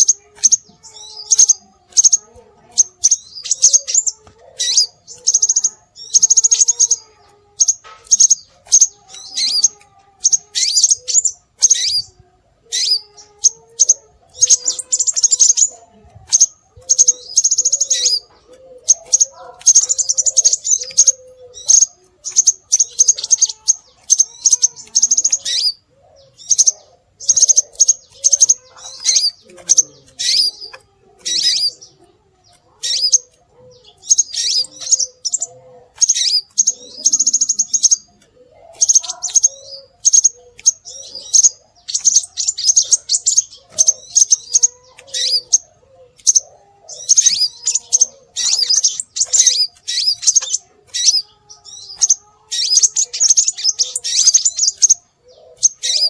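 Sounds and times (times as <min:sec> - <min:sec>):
high-pitched bird chirping: 0:00.0 - 0:56.0.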